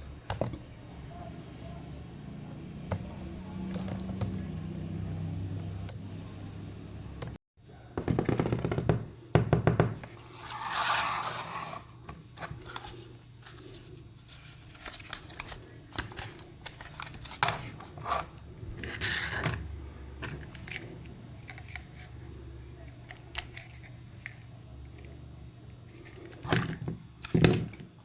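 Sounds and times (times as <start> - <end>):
low steady hum: 0.0 - 7.9, 10.0 - 28.0.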